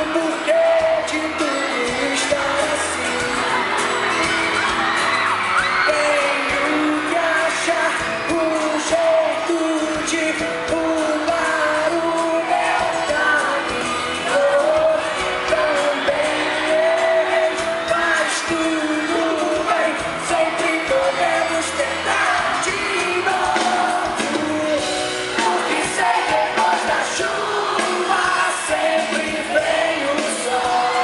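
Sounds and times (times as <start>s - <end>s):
live pop band: 0.0s - 31.0s
person singing: 0.0s - 31.0s.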